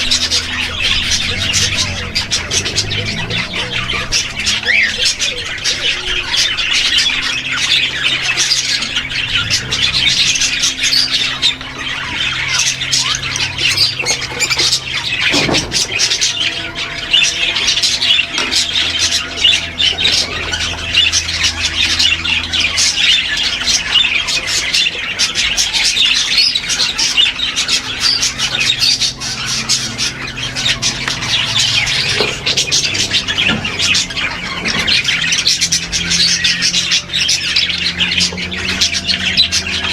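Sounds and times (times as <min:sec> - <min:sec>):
parrots squawking and chattering: 0:00.0 - 0:39.9.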